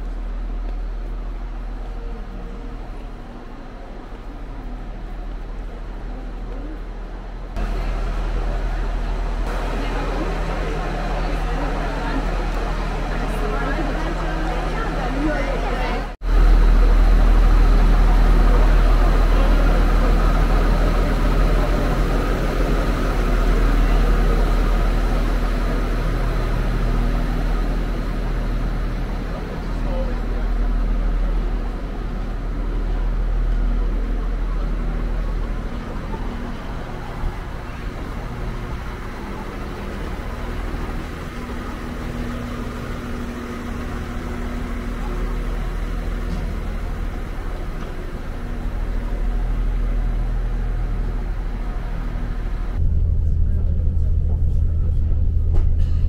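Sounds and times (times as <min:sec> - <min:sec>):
diesel railcar engine idling: 0:00.0 - 0:56.0.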